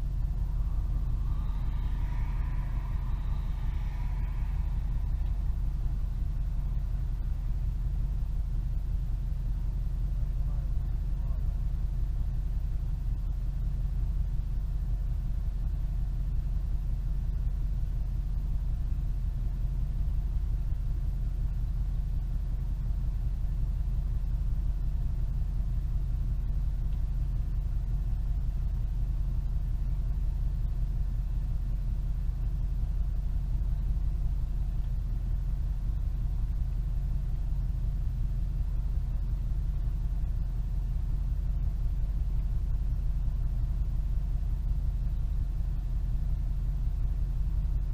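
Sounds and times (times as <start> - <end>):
vehicle low rumble: 0.0 - 47.9.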